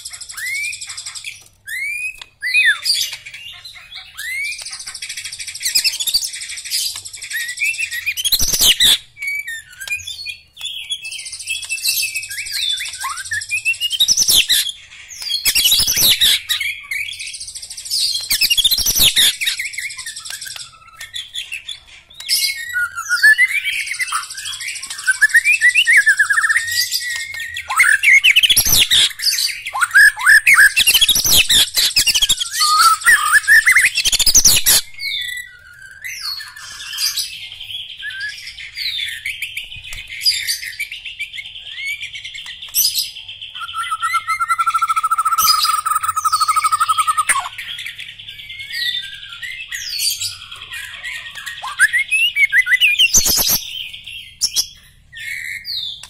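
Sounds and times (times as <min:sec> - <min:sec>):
songbird whistles and chirps: 0:00.0 - 0:56.0.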